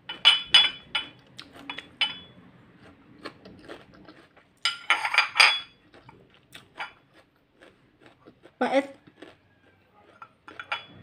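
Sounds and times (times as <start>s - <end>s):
crunching and chewing: 1.0s - 4.7s, 5.7s - 11.0s.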